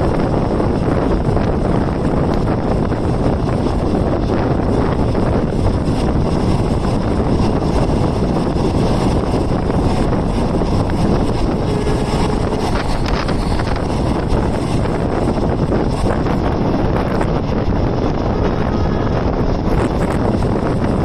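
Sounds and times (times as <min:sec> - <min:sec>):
train rumbling on rails: 0:00.0 - 0:21.0
wind buffeting microphone: 0:00.0 - 0:21.0.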